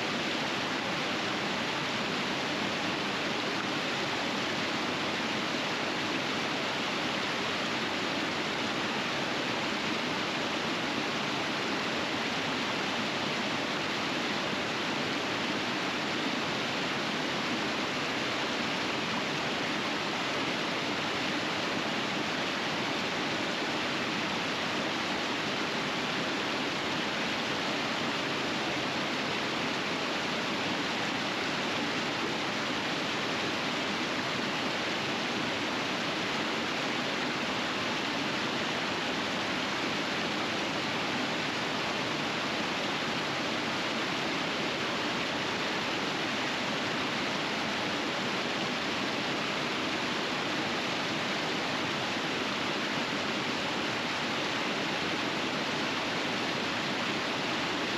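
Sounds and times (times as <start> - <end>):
river rapids rushing: 0.0 - 57.9.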